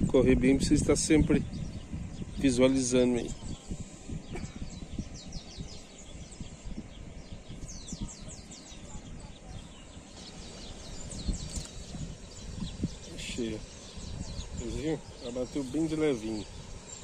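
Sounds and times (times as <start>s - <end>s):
small birds chirping: 0.0s - 17.0s
wind rumbling on microphone: 0.0s - 17.0s.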